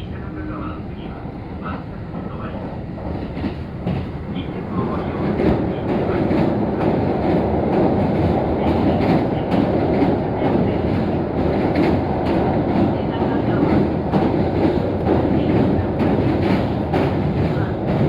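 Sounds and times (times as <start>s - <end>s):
electric train running on rails: 0.0s - 18.0s.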